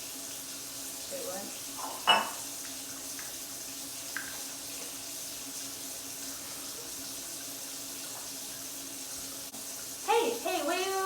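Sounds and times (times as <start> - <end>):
water running from tap: 0.0 - 11.0.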